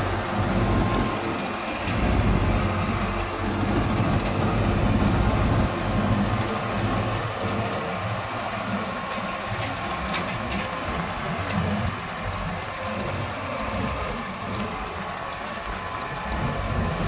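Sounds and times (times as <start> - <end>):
reaper machinery rushing: 0.0 - 17.0
tractor diesel engine running: 0.0 - 17.0.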